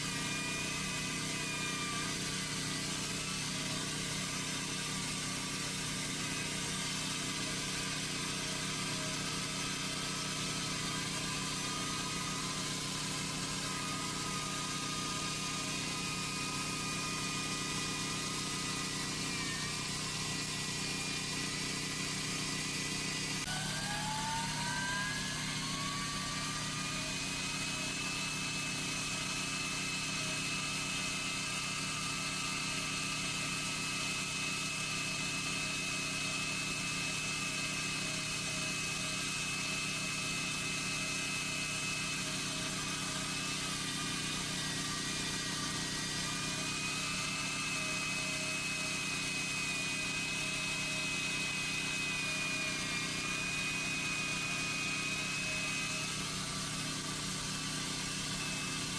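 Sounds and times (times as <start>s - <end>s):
chainsaw running: 0.0s - 58.9s.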